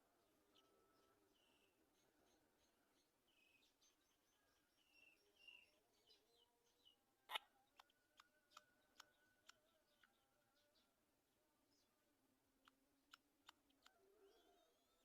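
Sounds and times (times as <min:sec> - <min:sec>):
faint high bird chirps: 0:00.0 - 0:11.0, 0:13.1 - 0:15.0.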